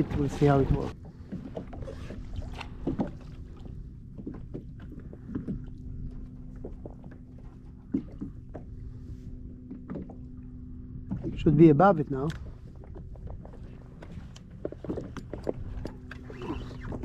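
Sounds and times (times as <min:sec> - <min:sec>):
faint steady hum: 0:00.0 - 0:17.0
water washing against hull: 0:00.0 - 0:17.0.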